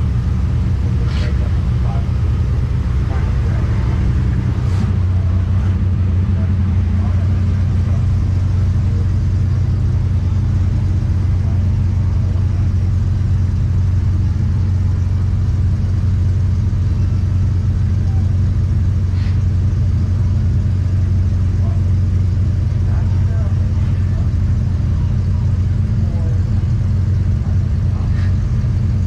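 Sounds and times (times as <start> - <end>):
truck engine droning: 0.0 - 29.0.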